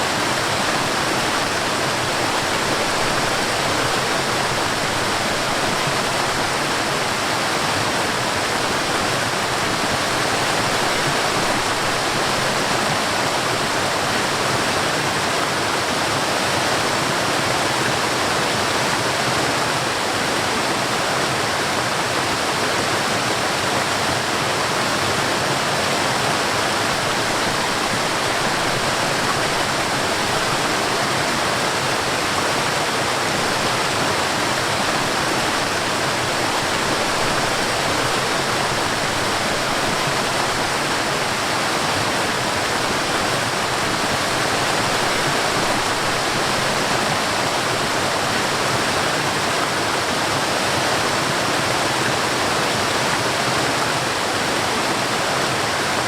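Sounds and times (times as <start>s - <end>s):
stream and waterfall rushing: 0.0s - 56.0s.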